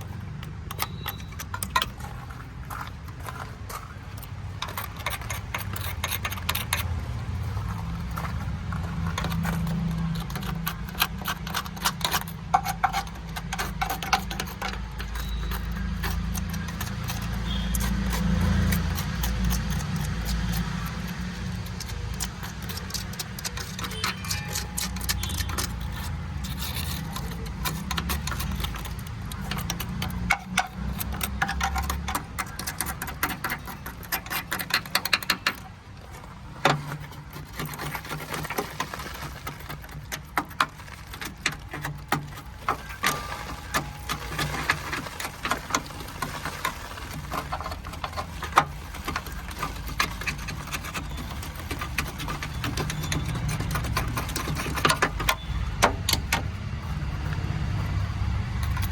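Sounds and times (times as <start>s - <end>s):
hand tools clicking and rattling: 0.0s - 58.9s.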